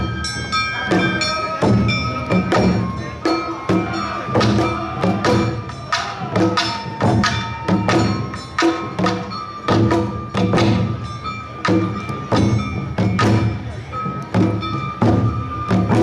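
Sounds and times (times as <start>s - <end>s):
flute-like held tones: 0.0s - 16.0s
taiko drums: 0.0s - 16.0s.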